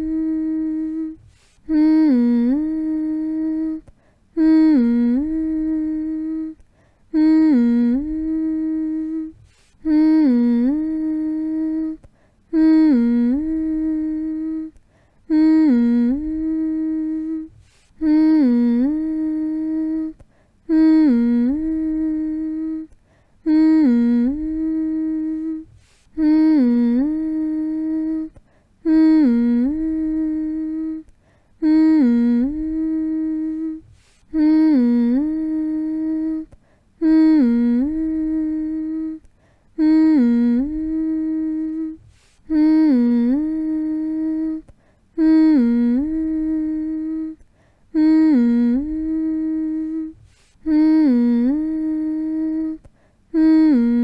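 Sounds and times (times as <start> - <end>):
person humming: 0.0 - 54.0.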